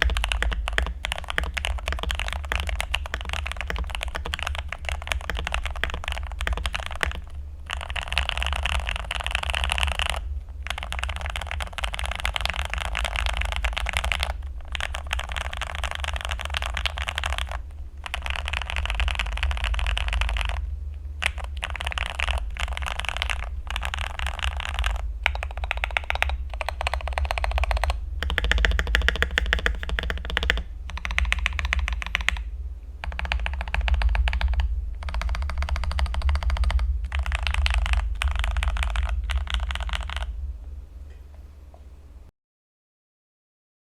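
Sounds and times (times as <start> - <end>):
fast mechanical keyboard typing: 0.0 - 40.4.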